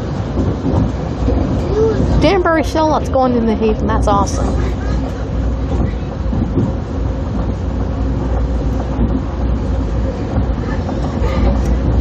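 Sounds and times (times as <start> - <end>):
train rumbling from inside coach: 0.0 - 12.0.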